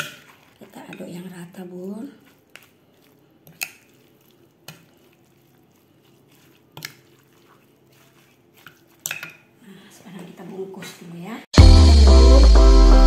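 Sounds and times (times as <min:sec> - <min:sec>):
soft wet mixing: 0:00.0 - 0:11.2.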